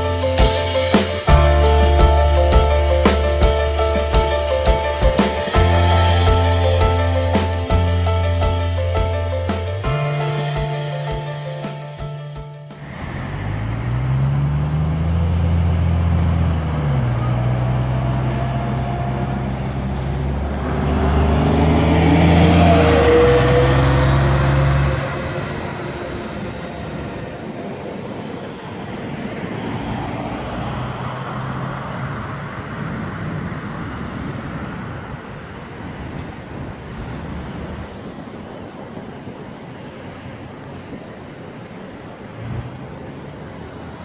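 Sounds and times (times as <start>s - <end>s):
diesel bus pulling away: 0.0s - 44.0s
street traffic noise: 0.0s - 44.0s.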